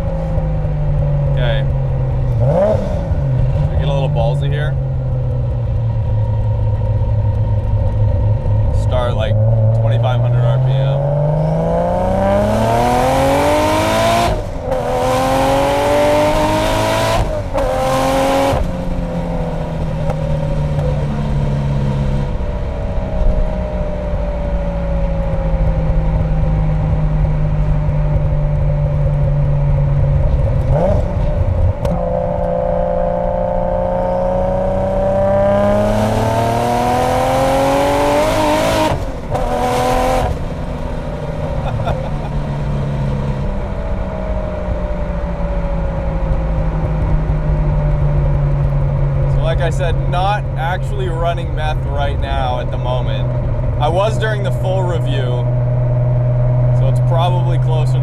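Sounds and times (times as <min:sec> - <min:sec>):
car engine accelerating and shifting: 0:00.0 - 0:58.0.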